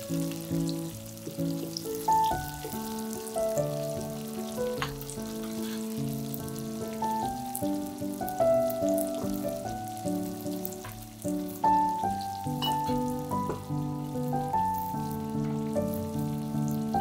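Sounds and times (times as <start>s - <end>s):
background music: 0.0s - 17.0s
food frying in oil: 0.0s - 17.0s.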